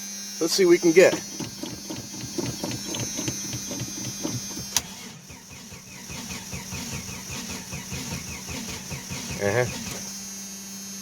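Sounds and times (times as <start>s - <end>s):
starter cranking car engine: 0.6s - 10.2s.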